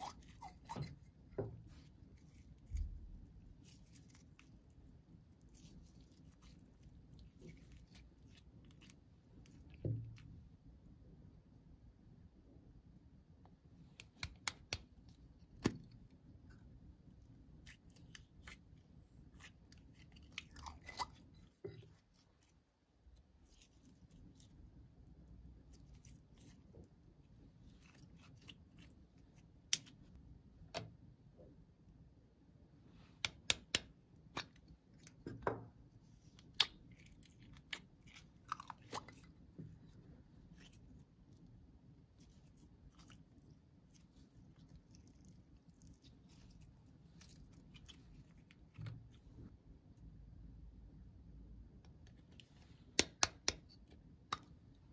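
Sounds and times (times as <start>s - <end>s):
slime squelches: 0.0s - 10.6s, 13.8s - 30.6s, 32.9s - 49.6s.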